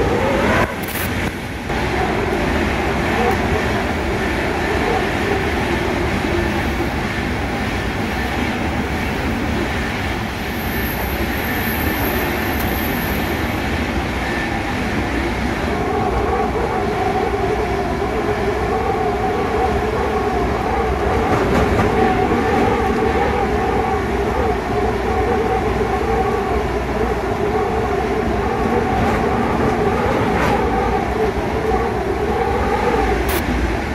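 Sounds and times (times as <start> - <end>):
train wheels rumbling on track: 0.0 - 33.9.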